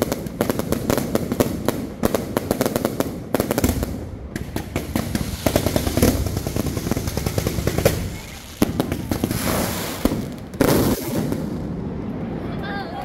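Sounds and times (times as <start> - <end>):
fireworks cracking and popping: 0.0 - 12.4.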